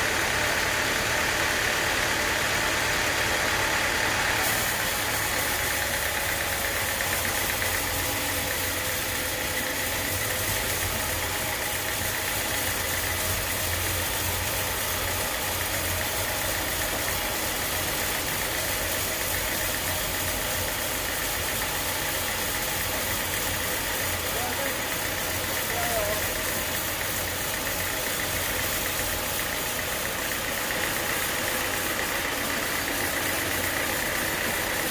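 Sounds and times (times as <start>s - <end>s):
sawmill engine hum: 0.0s - 34.9s
steady high whine: 4.4s - 34.9s.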